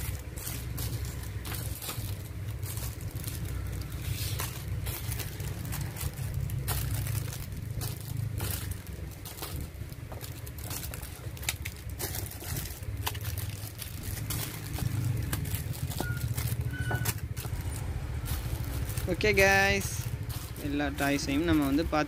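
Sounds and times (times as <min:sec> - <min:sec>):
plastic packets crinkling: 0:00.0 - 0:22.0.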